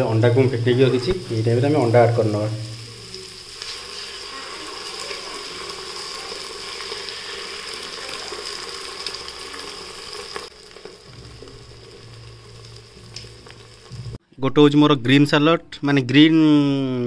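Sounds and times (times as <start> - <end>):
vegetables sizzling in butter: 0.0 - 14.2.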